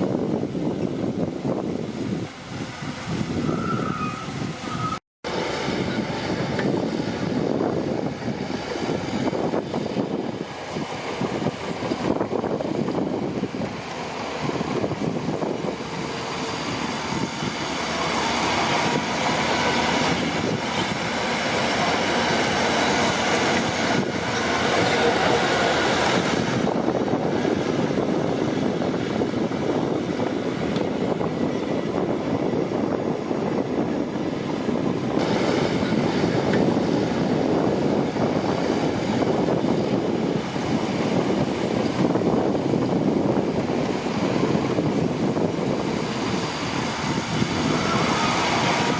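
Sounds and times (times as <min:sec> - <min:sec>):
diesel engine under load: 0:00.0 - 0:48.9
steel tracks clanking and squealing: 0:03.2 - 0:10.1, 0:13.8 - 0:32.6, 0:33.4 - 0:48.9.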